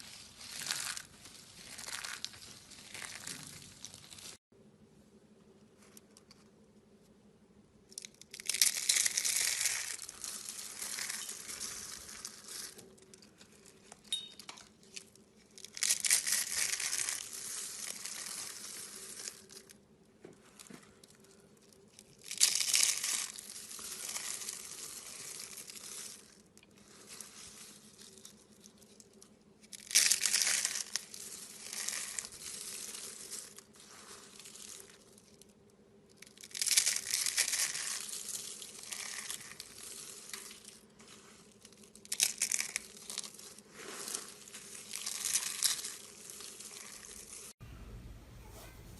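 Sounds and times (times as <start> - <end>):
slime crackling by hand: 0.0 - 4.4, 7.8 - 14.0, 14.7 - 47.6.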